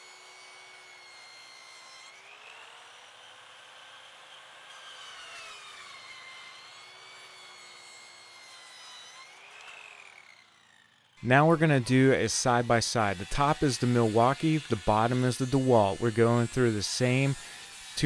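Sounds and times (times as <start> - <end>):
circular saw cutting wood: 0.0 - 18.0.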